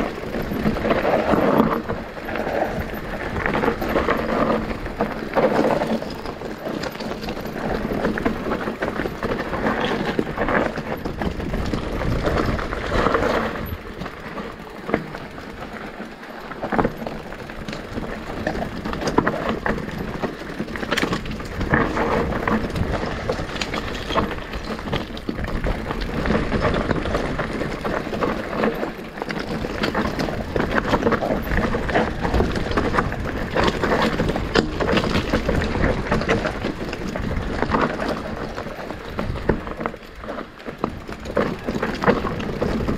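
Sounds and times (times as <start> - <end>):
bike chain and frame rattling: 0.0 - 42.9
tyres crunching over dirt: 0.0 - 42.9.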